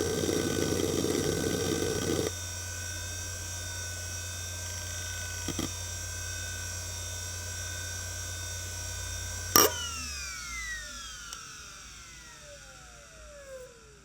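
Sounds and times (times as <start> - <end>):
hard drive spindle whine: 0.0 - 14.0.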